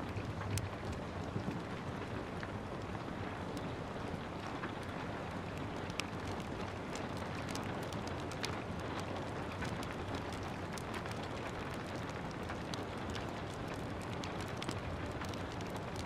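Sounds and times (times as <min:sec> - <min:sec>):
steady rain: 0:00.0 - 0:16.0
wood fire crackling and popping: 0:00.0 - 0:16.0.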